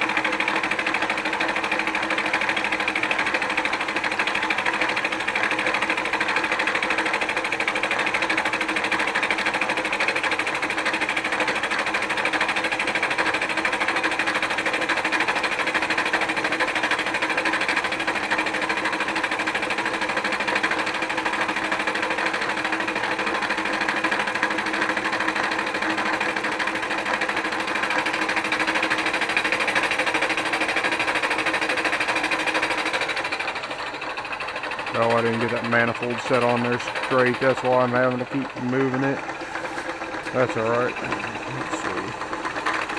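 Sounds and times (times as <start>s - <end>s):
milling machine cutting metal: 0.0s - 42.9s.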